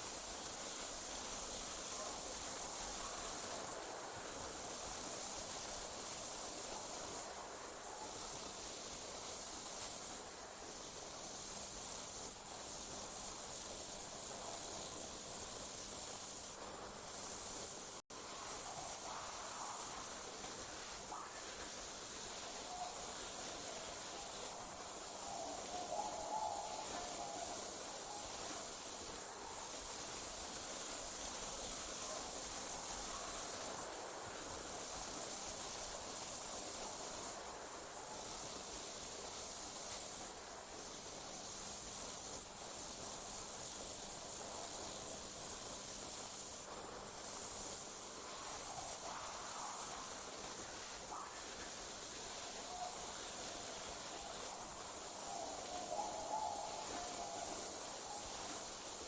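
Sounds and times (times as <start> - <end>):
crickets trilling: 8.0 - 37.4, 38.1 - 59.0.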